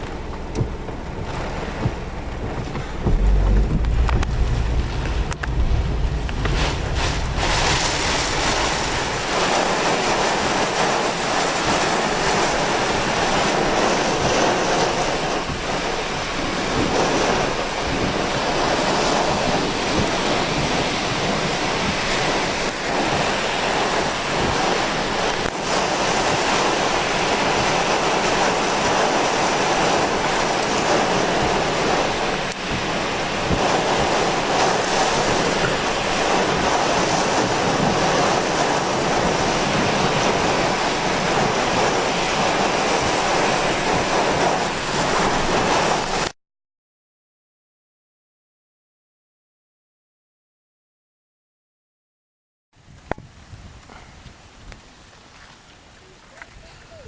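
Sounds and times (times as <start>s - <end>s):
strong wind gusts: 0.0s - 46.3s, 52.8s - 55.2s
heavy rain: 0.0s - 46.4s.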